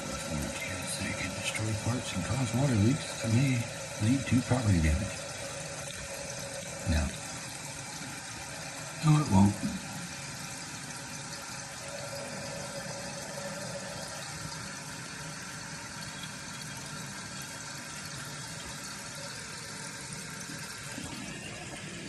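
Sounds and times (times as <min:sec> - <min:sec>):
water hissing into toilet tank: 0:00.0 - 0:22.0.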